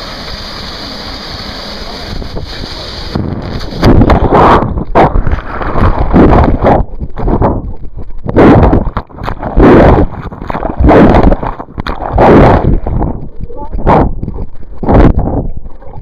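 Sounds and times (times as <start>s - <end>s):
camera microphone rubbing noise: 2.1s - 16.0s.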